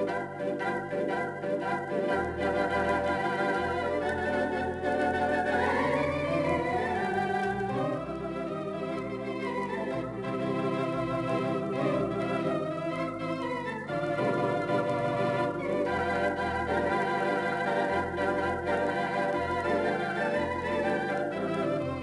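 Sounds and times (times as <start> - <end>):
theatre organ playing chords: 0.0 - 22.0.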